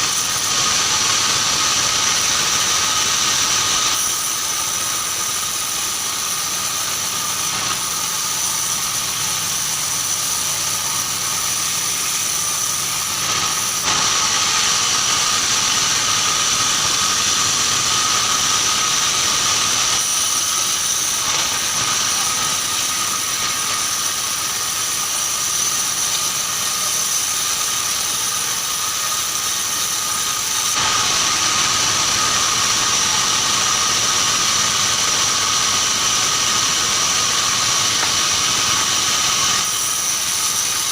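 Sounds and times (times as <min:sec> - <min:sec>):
band sawmill sawing timber: 0:00.0 - 0:40.9.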